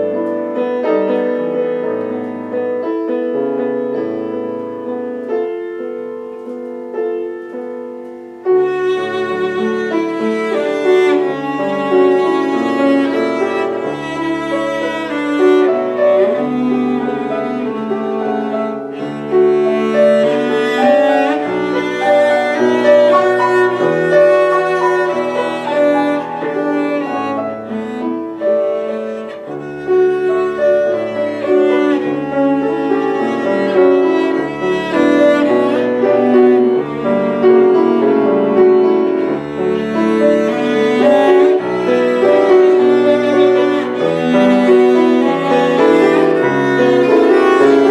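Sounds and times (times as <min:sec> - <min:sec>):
piano accompaniment: 0:00.0 - 0:47.9
bowed string melody: 0:07.4 - 0:47.9.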